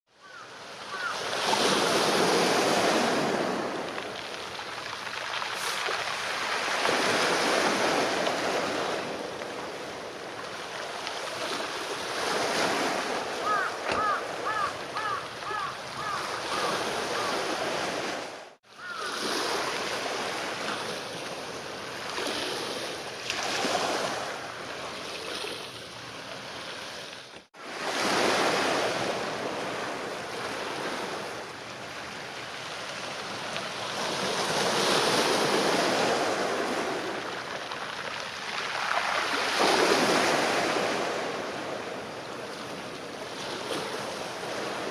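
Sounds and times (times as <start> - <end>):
waves washing against rocks: 0.9 - 44.9.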